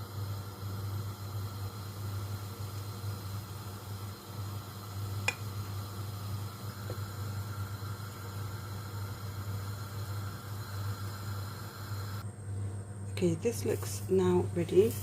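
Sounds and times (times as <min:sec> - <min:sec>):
batter hissing in a frying pan: 0:00.0 - 0:12.2, 0:13.8 - 0:15.0.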